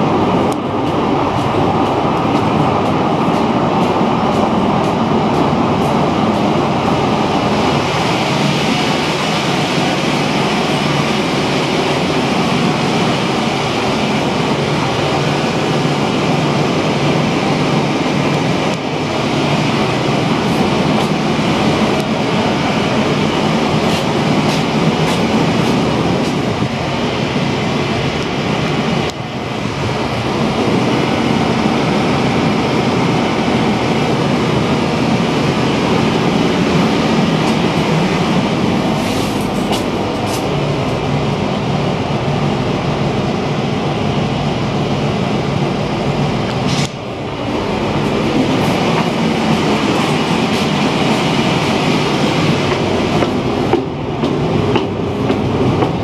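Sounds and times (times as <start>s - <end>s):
ferry engines running: 0.0s - 56.0s
wind: 0.0s - 56.0s.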